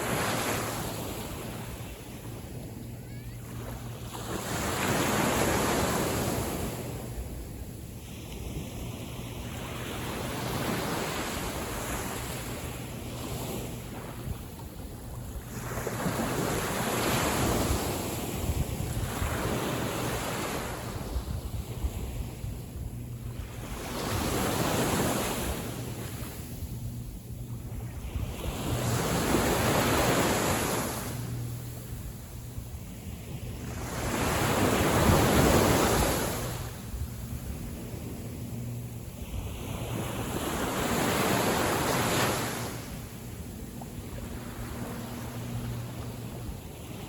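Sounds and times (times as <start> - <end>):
small waves washing on beach: 0.0 - 47.0.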